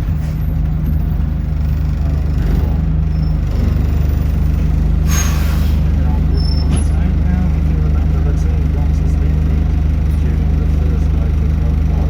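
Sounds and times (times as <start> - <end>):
bus engine low hum: 0.0 - 12.0.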